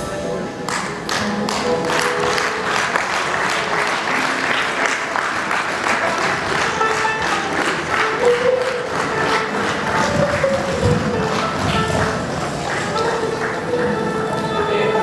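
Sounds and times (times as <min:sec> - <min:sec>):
soft music: 0:00.0 - 0:15.0
audience applauding: 0:00.6 - 0:15.0.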